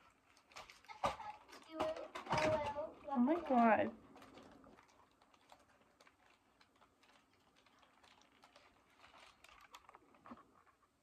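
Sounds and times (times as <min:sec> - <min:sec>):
faint clicks and taps: 0:00.3 - 0:10.9.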